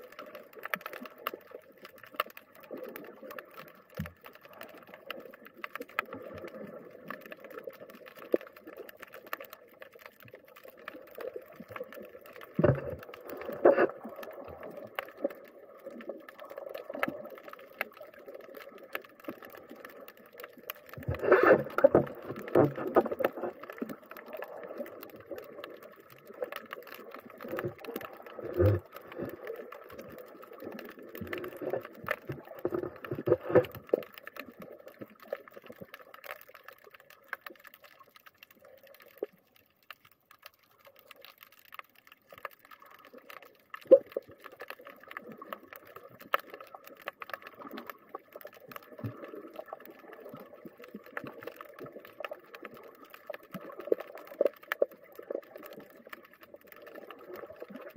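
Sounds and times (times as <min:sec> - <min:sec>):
underwater clicking and crackling: 0:00.0 - 0:57.9.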